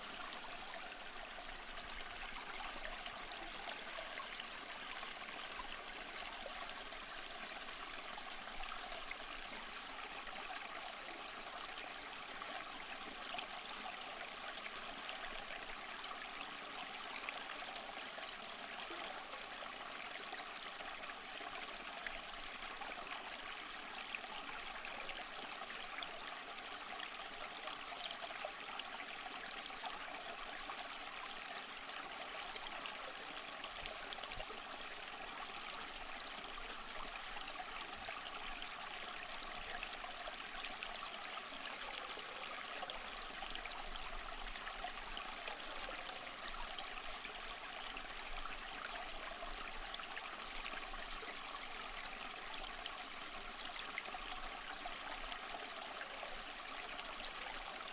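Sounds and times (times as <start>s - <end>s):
small stream trickling: 0.0s - 57.9s.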